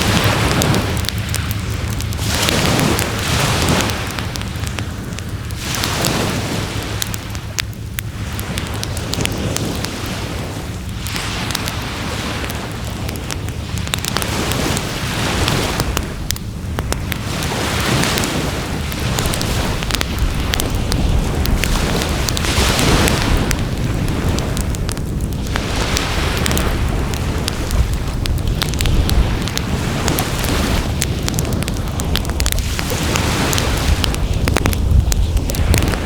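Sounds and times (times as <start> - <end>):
low rumble: 0.0 - 11.6, 18.6 - 36.0
wood fire crackling: 0.0 - 36.0.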